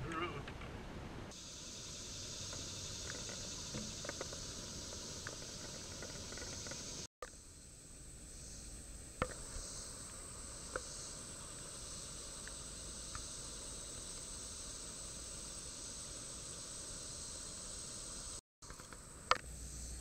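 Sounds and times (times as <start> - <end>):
insects droning: 1.3 - 20.0.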